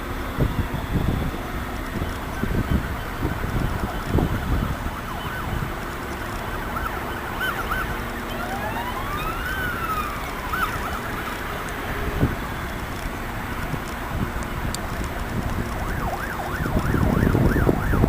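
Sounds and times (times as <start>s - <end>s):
siren yelps and wail: 0.0s - 18.0s.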